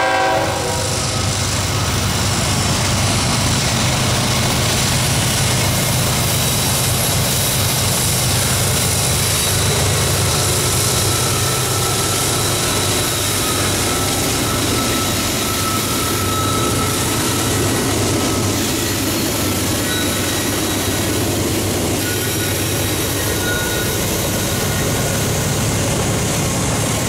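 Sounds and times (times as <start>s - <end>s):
diesel locomotives passing: 0.0s - 27.0s
freight cars wheel-on-rail noise: 0.0s - 27.0s.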